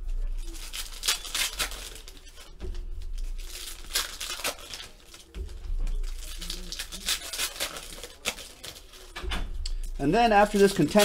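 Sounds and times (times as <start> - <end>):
foil wrappers crinkling and tearing: 0.0 - 9.2, 10.0 - 11.0.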